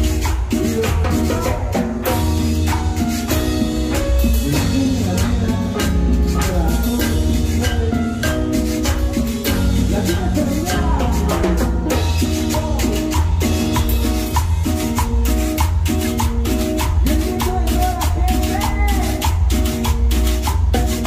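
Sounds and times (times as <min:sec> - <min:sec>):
bass line: 0:00.0 - 0:21.0
keyboard notes: 0:00.0 - 0:21.0
percussion: 0:00.0 - 0:21.0.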